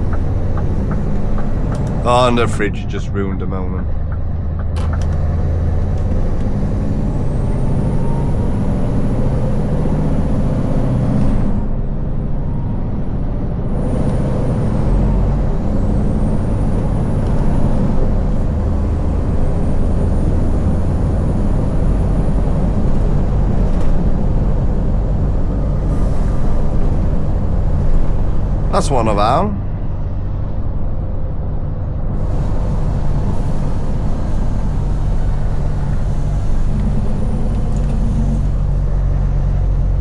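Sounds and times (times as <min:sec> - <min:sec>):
truck engine deep rumble: 0:00.0 - 0:40.0.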